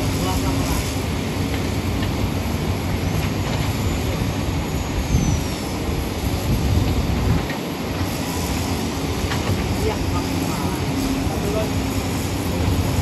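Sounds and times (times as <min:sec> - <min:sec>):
diesel machinery engines droning: 0:00.0 - 0:13.0.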